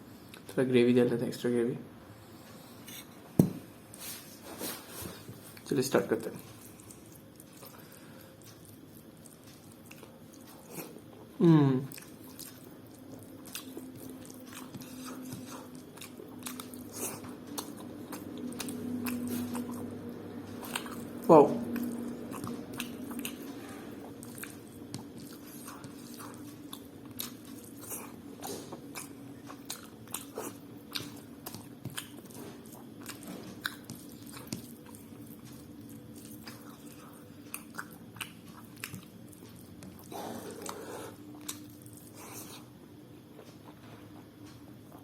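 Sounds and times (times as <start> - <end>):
steady low hum: 0.0 - 45.0
person chewing food: 5.1 - 45.0.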